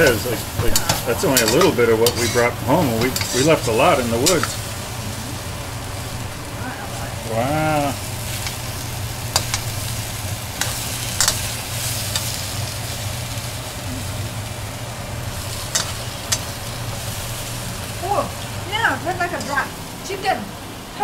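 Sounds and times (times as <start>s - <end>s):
mushrooms sizzling in a pan: 0.0s - 21.0s.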